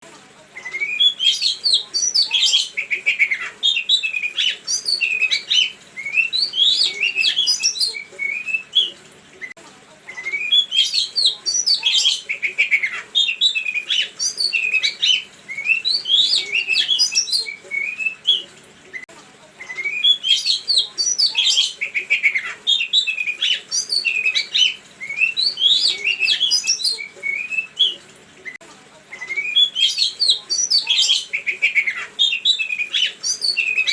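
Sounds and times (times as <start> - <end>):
songbird chirping and whistling: 0.6 - 9.5, 10.1 - 33.9.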